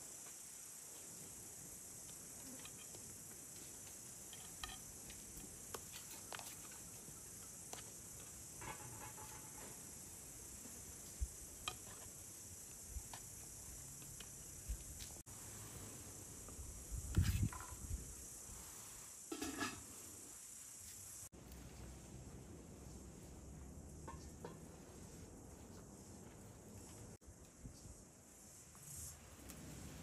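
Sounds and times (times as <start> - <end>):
steady high hiss: 0.0 - 30.0.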